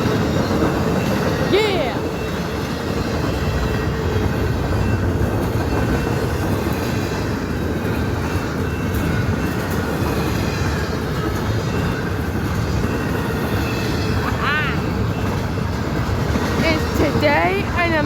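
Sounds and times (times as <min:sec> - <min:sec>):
freight train rolling on rails: 0:00.0 - 0:18.0.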